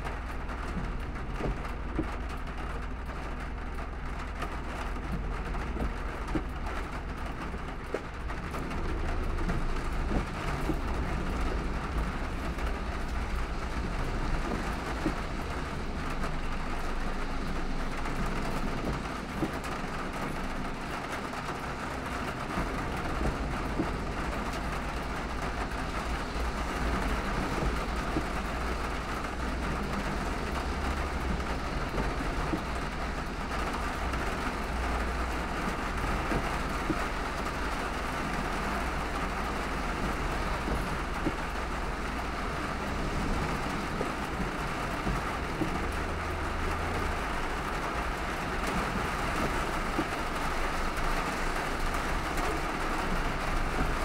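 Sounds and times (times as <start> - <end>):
rain on car: 0.0 - 54.0
tyres on wet road: 0.0 - 54.0.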